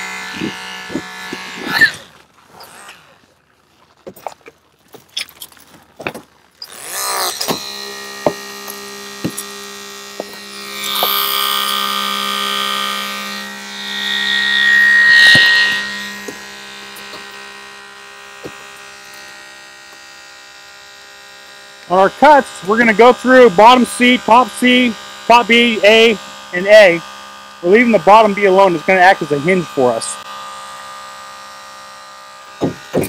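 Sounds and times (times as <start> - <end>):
hydraulic cutter motor whine: 0.0 - 3.2, 6.5 - 33.0.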